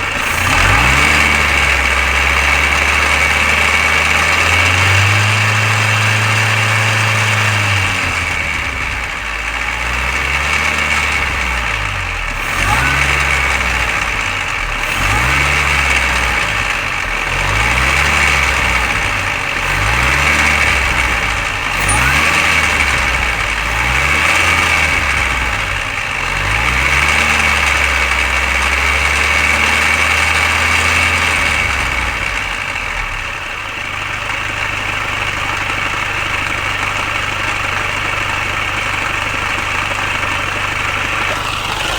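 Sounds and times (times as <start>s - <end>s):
car engine revving: 0.0s - 33.4s, 39.0s - 41.9s
engine rattle: 0.0s - 41.9s.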